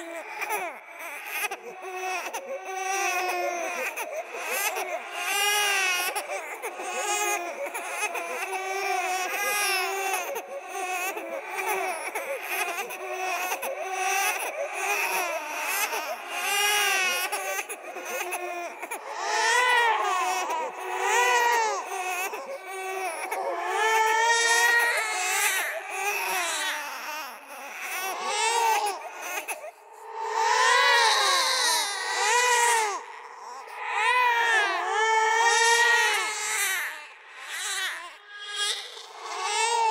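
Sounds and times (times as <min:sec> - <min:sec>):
babies crying: 0:00.0 - 0:39.9.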